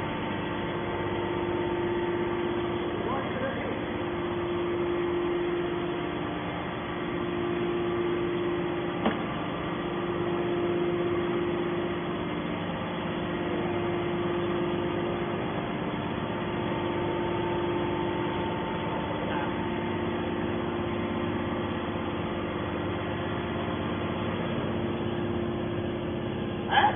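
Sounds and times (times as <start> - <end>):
machine motor and pump hum: 0.0 - 26.9.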